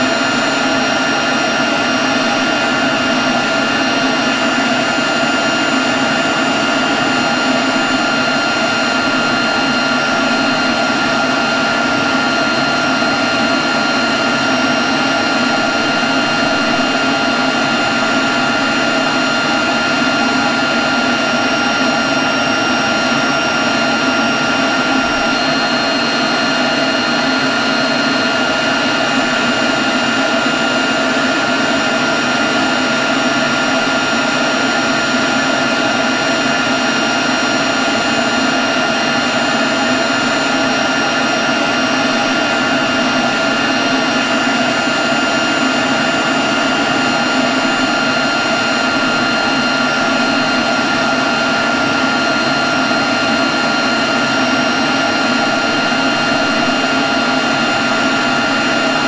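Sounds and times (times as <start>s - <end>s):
high whine: 0.0s - 59.0s
leaf blower running: 0.0s - 59.0s.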